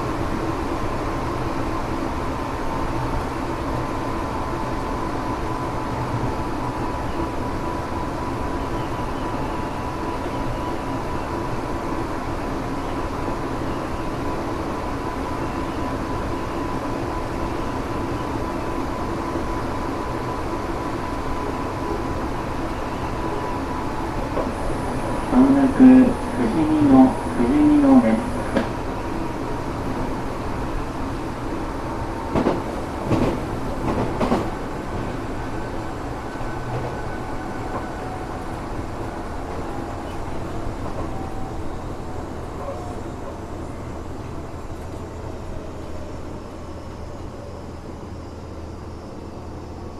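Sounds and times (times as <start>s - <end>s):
electric train rumbling: 0.0s - 49.9s.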